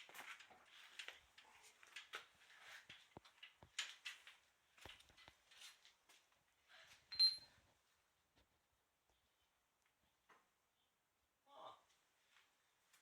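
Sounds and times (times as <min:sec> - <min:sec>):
faint clicks and rustles: 0:00.0 - 0:10.6.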